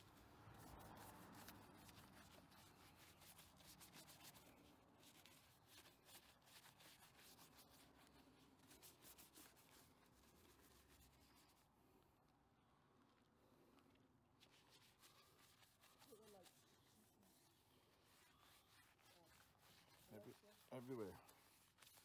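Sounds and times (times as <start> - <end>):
brush scrubbing foam: 0.0 - 11.6, 14.4 - 22.0.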